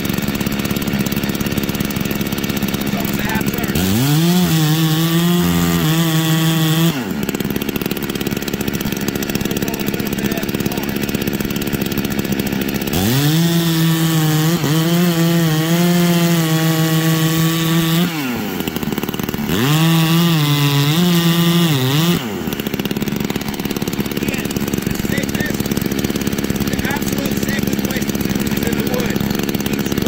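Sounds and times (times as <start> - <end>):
chainsaw cutting into log: 0.0 - 30.0
chainsaw idling and revving: 0.0 - 30.0.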